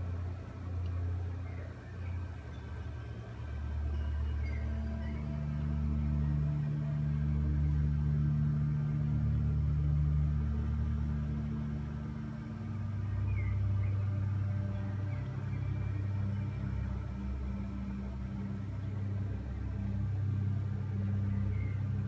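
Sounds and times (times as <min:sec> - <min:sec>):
aquarium pump humming: 0:00.0 - 0:22.0.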